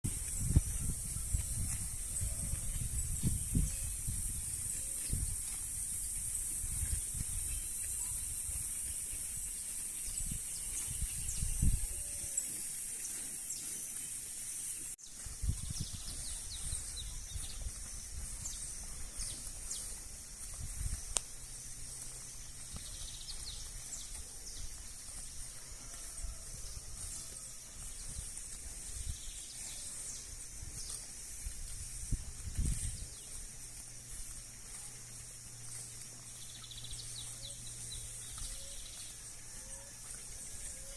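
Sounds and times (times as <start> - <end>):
wind rumbling on microphone: 0.0 - 12.5, 15.1 - 35.8
steady high-pitched hiss: 0.1 - 40.9.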